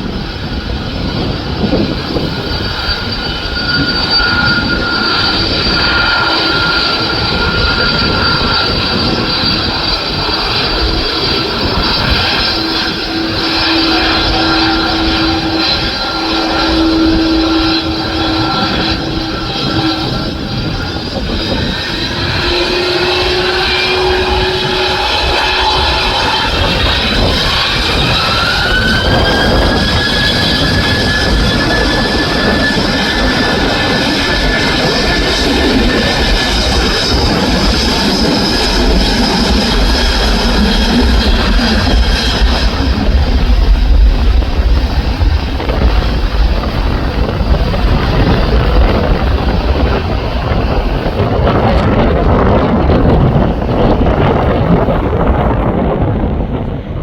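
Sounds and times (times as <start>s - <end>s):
jet engines whining: 0.0s - 57.0s
wind buffeting microphone: 0.0s - 57.0s.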